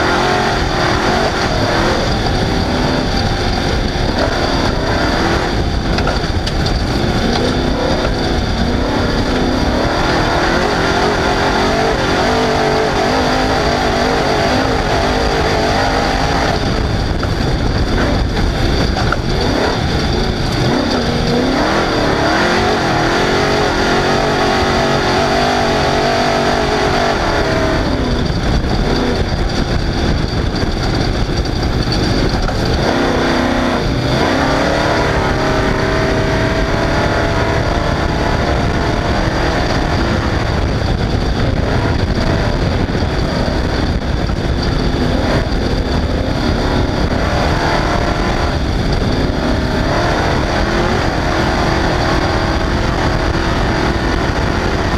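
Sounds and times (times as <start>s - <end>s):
race vehicle engine revving: 0.0s - 54.9s
road and wind noise: 0.0s - 54.9s.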